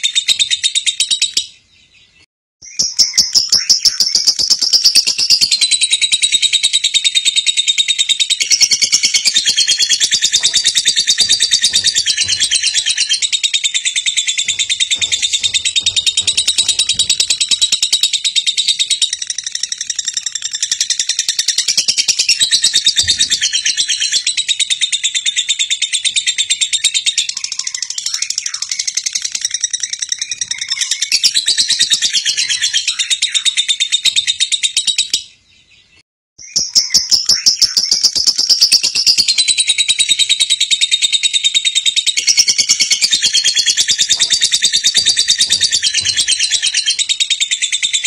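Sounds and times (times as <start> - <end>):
bird chirping trill: 0.0 - 48.0.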